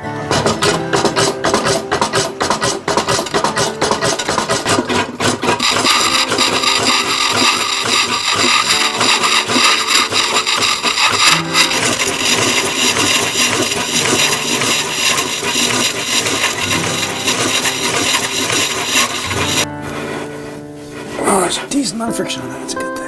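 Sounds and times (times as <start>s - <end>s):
scroll saw cutting wood: 0.3s - 21.5s.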